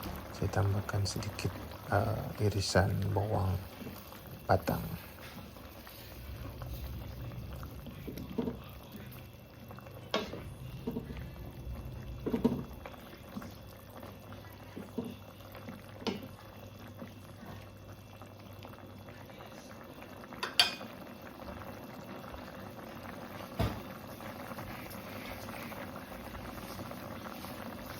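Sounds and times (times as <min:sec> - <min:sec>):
soup bubbling in a pot: 0:00.0 - 0:27.9.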